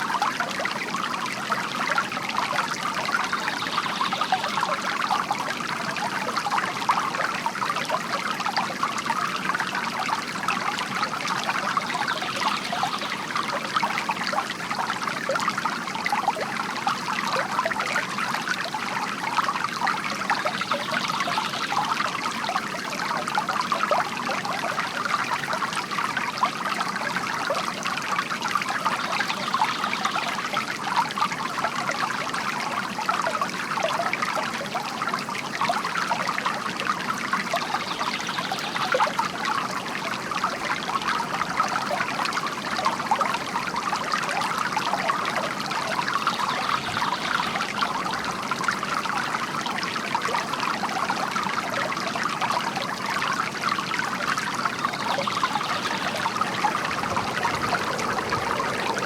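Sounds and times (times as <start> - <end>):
water trickling into a basin: 0.0 - 59.0.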